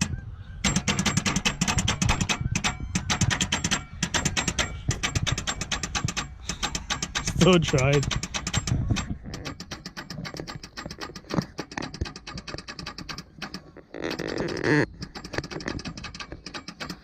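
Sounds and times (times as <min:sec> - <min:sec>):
starter motor clicking: 0:00.7 - 0:17.0.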